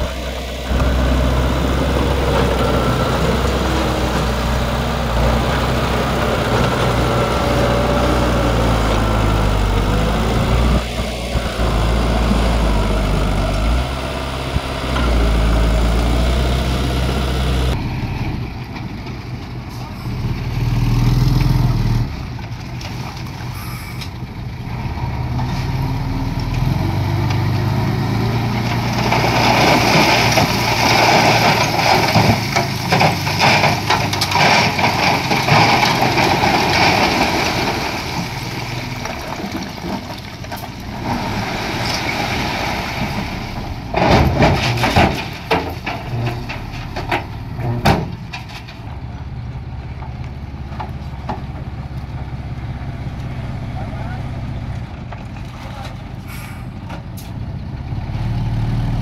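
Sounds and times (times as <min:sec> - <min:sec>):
diesel machinery engine hum: 0:00.0 - 0:59.0.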